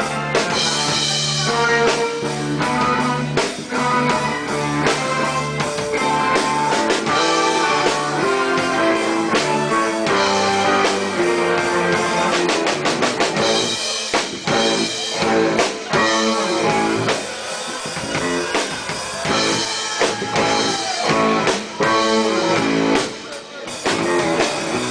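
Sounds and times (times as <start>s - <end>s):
drum kit: 0.0s - 24.9s
guitar: 0.0s - 24.9s
live rock band playing: 0.0s - 24.9s.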